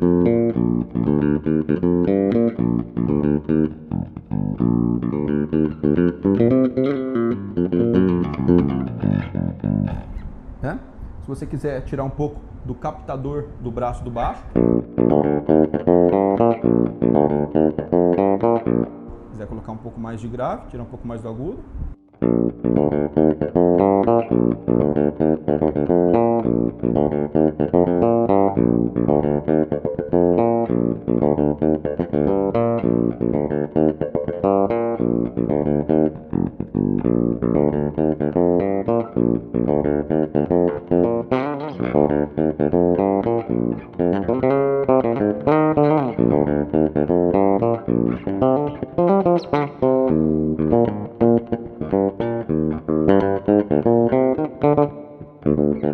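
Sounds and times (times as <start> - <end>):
electric bass plucked notes: 0.0 - 11.2, 13.2 - 55.9.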